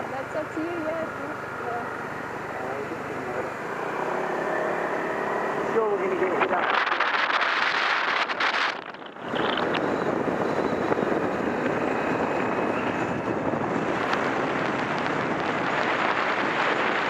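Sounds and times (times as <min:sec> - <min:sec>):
motor vehicle drone: 0:00.0 - 0:17.0.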